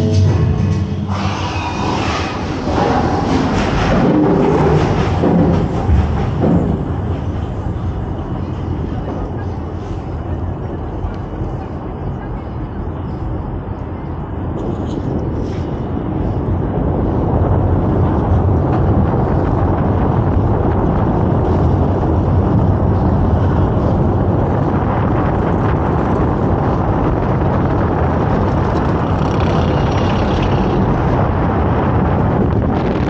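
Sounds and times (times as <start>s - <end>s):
roller coaster lift rumble: 0.0s - 33.0s.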